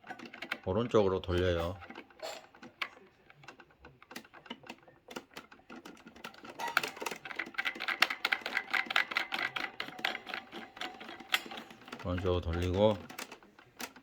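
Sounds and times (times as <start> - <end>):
plastic fan parts clicking: 0.0 - 14.0.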